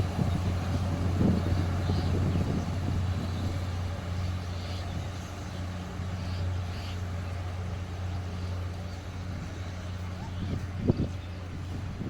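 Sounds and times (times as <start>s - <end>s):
diesel locomotive humming: 0.0s - 12.0s.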